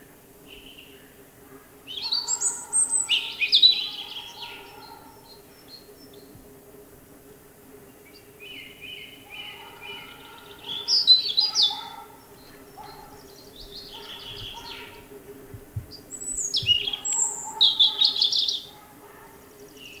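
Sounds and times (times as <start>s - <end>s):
robin singing: 1.8s - 6.4s, 7.8s - 20.0s.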